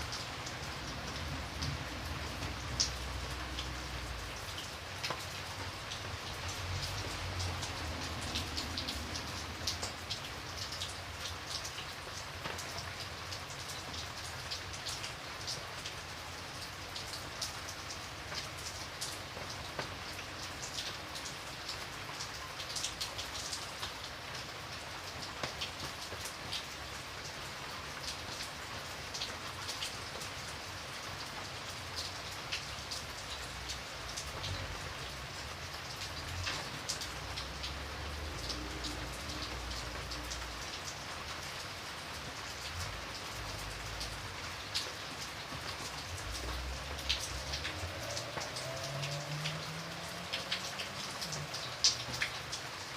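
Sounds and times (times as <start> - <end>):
rain pattering: 0.0 - 52.9.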